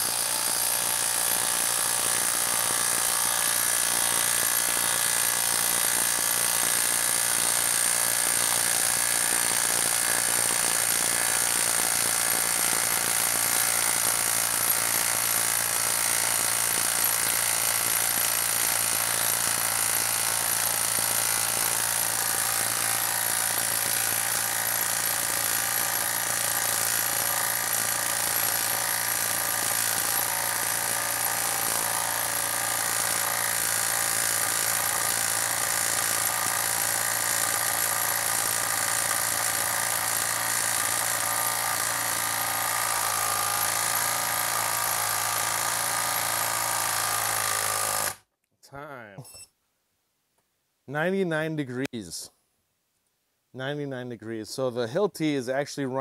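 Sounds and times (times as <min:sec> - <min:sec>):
impact driver hammering: 0:00.0 - 0:48.2.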